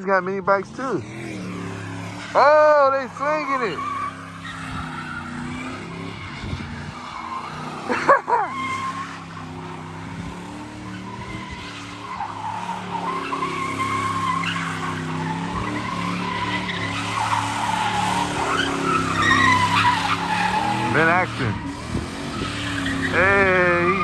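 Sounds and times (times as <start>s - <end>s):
car engine at high revs: 0.0s - 24.0s
tires squealing: 0.0s - 24.0s.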